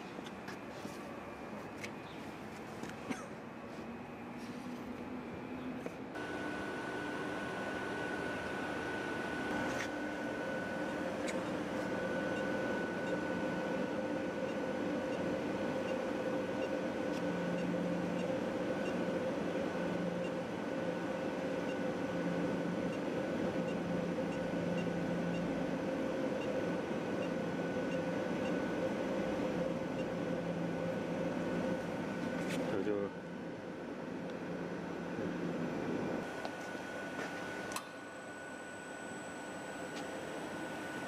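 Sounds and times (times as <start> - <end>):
constant high whine: 0.0 - 41.0
mechanical hum and hiss: 0.0 - 41.0.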